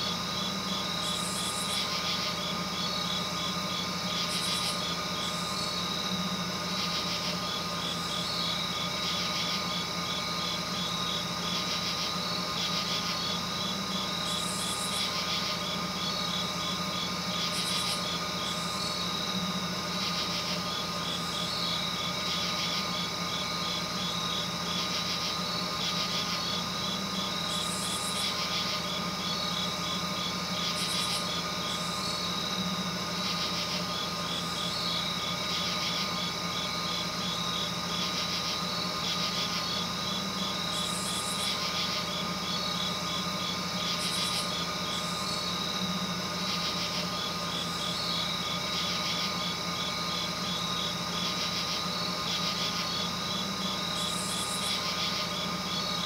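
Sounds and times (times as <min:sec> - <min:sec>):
insect buzzes: 0:00.0 - 0:56.0
insects ticking pulses: 0:00.0 - 0:56.0
steady low hum: 0:00.0 - 0:56.0.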